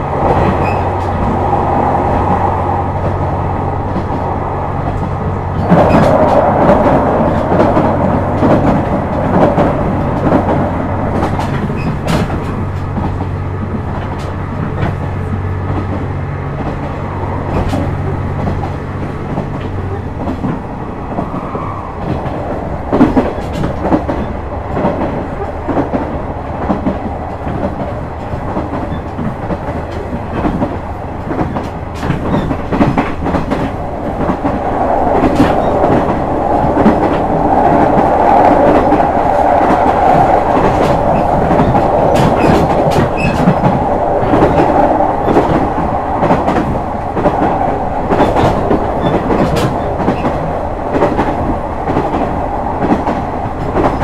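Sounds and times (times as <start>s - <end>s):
diesel railcar rumbling: 0.0s - 54.0s
rail-joint clicks: 0.0s - 54.0s.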